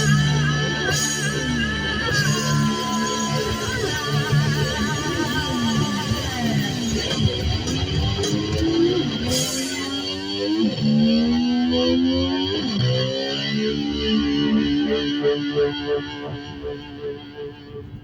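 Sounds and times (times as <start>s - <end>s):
distorted electric slide guitar: 0.0s - 18.0s.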